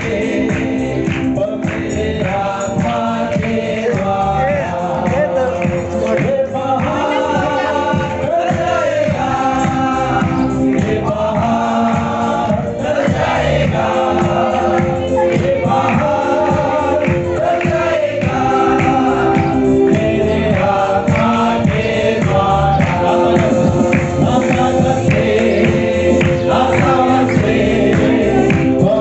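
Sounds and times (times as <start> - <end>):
choir singing: 0.0 - 29.0
instrumental backing with steady beat: 0.0 - 29.0.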